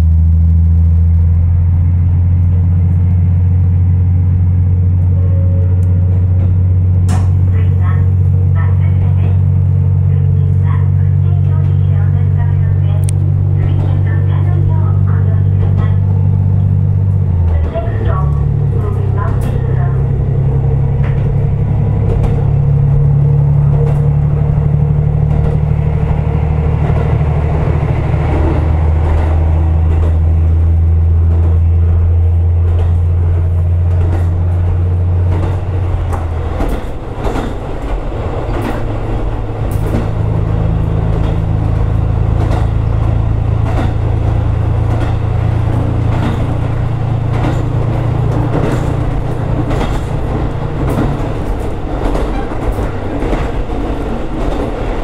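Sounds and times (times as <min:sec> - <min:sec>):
railcar engine drone: 0:00.0 - 0:55.0
wheels clicking over rail joints: 0:01.8 - 0:09.6, 0:10.5 - 0:55.0.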